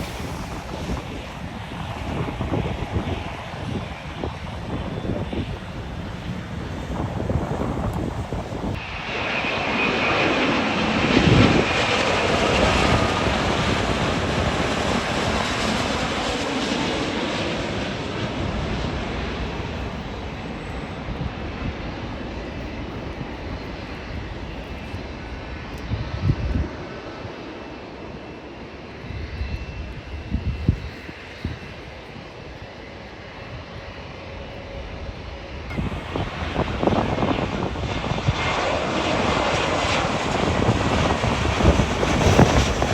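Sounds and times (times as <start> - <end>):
jet airliner passing: 0.0 - 42.9.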